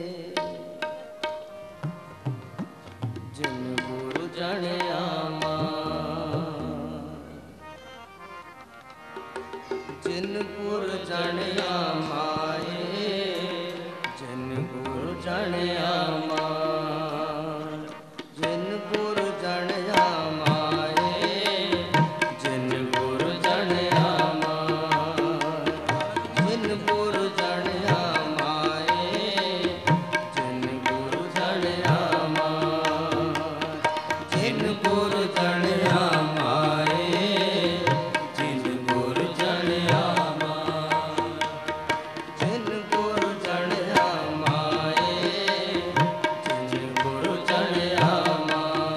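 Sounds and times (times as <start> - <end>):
tabla beat: 0.0 - 7.2, 9.0 - 17.2, 17.8 - 48.9
harmonium: 0.0 - 48.9
men singing: 3.4 - 7.4, 10.0 - 48.9.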